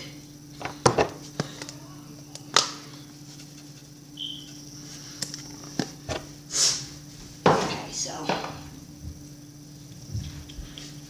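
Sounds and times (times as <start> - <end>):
low appliance hum: 0.0 - 11.0.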